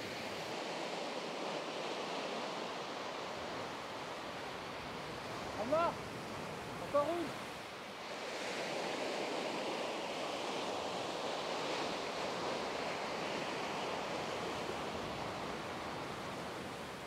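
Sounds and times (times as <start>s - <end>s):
waves washing onto sandy beach: 0.0s - 17.0s.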